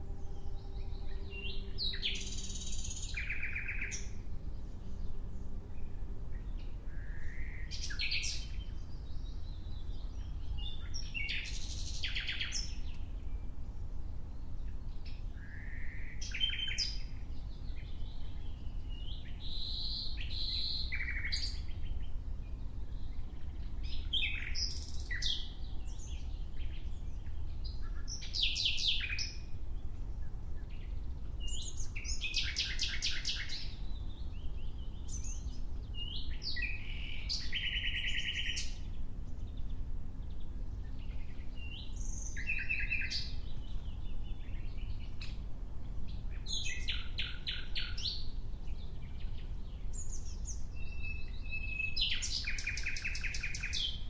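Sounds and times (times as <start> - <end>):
nightingale singing: 0.0 - 13.6, 14.2 - 54.0
steady low rumble: 0.0 - 20.0, 21.0 - 47.1.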